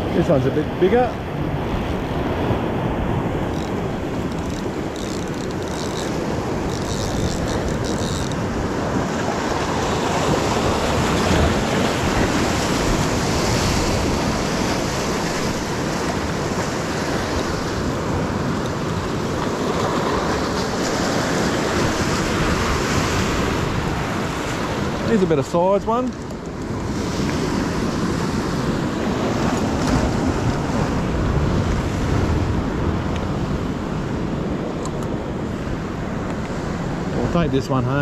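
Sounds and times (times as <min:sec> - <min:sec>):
ocean surf washing against rocks: 0:00.0 - 0:38.0
wind noise on microphone: 0:01.3 - 0:25.2, 0:26.0 - 0:37.5.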